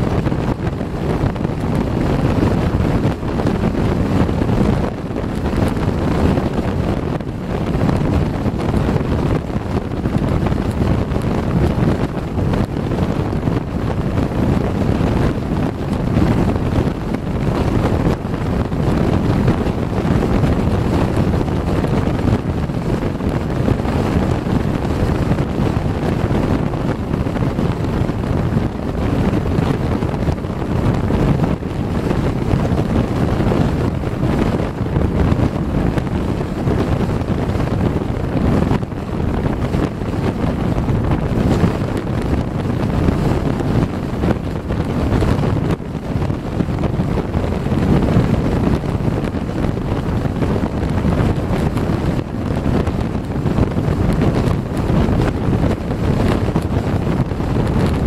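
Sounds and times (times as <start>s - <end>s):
car road and tyre noise: 0.0s - 58.0s
wind buffeting microphone: 0.0s - 58.0s.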